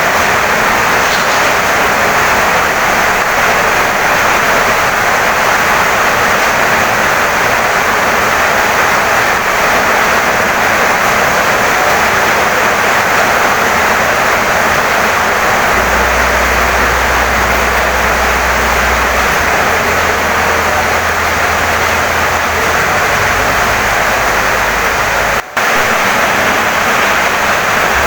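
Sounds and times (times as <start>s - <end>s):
heavy rain on wooden house: 0.0s - 28.0s.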